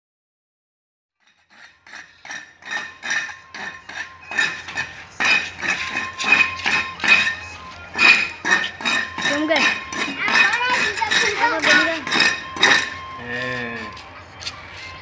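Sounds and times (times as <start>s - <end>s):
hoe clinking on stone paving: 1.2s - 15.0s.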